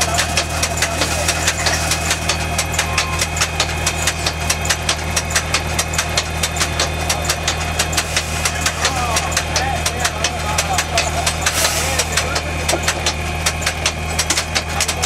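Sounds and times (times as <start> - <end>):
machine engine running: 0.0 - 15.0
rapid mechanical clicking: 0.0 - 15.0.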